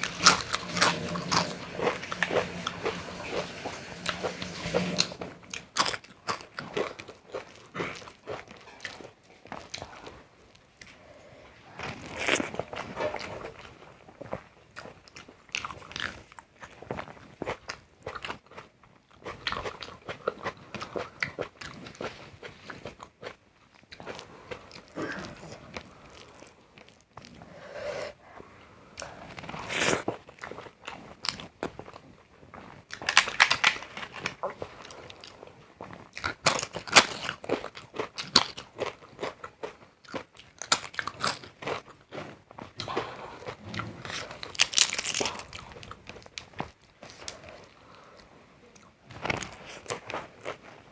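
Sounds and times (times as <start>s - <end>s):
person chewing crunchy food: 0.0s - 11.1s, 11.7s - 27.6s, 29.0s - 50.9s.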